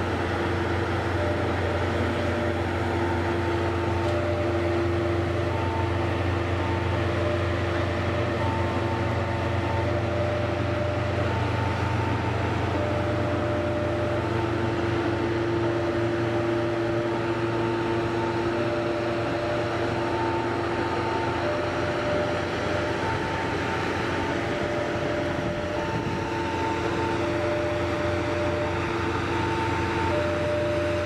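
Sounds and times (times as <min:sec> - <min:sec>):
diesel locomotive drone: 0:00.0 - 0:31.0.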